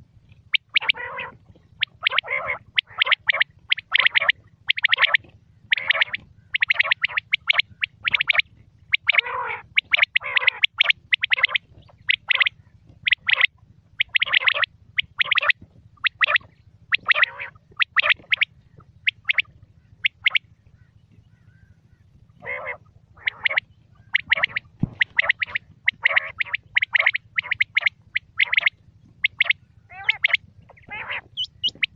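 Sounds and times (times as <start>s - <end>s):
quail calling in rapid bursts: 0.0s - 31.9s.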